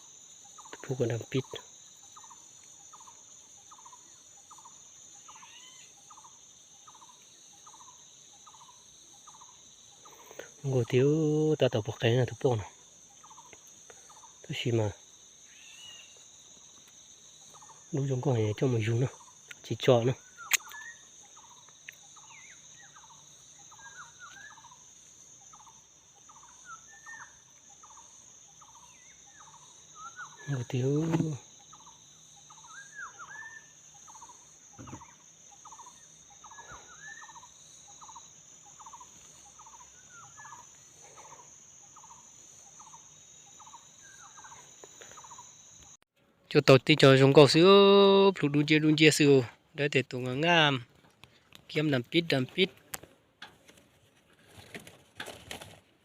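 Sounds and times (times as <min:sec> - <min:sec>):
birds chirping: 0:00.0 - 0:46.0
insect chorus: 0:00.0 - 0:56.0.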